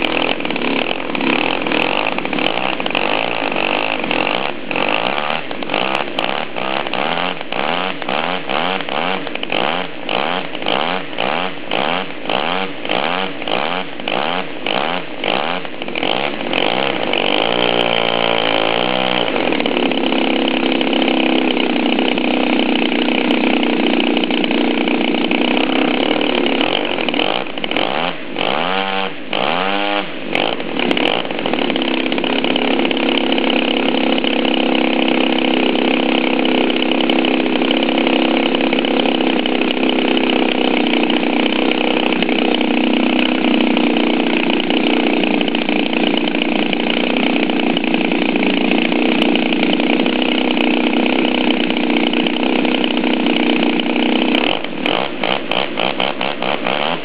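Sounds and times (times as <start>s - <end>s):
model aircraft engine running: 0.0s - 57.0s.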